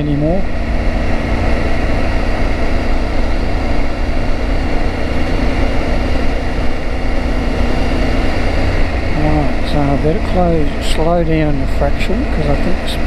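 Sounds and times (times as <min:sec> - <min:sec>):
motorcycle engine humming: 0:00.0 - 0:13.0.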